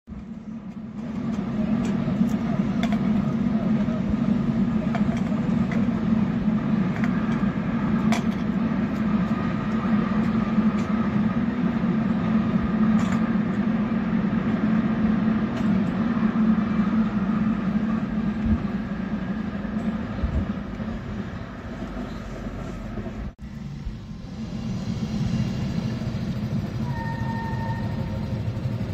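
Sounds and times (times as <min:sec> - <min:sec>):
freight train rumbling: 0:00.1 - 0:28.9.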